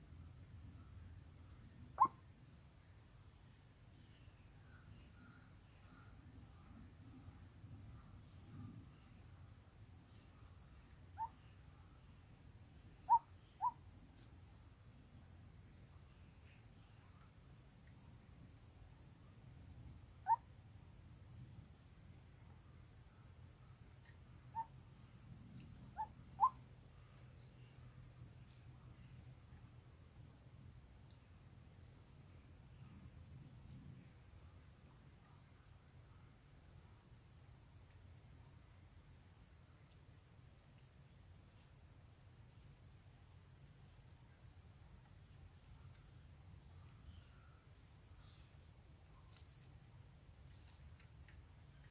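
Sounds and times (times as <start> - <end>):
high insect drone: 0.0 - 51.9.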